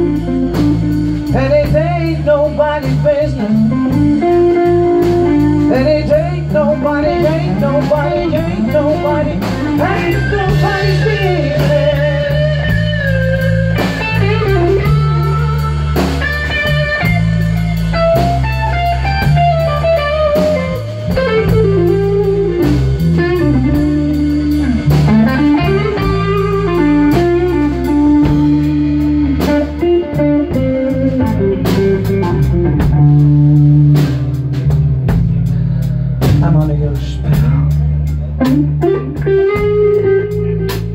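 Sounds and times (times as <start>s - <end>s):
bass guitar: 0.0s - 40.9s
drum kit: 0.0s - 40.9s
electric guitar solo: 3.4s - 34.2s, 38.3s - 40.9s.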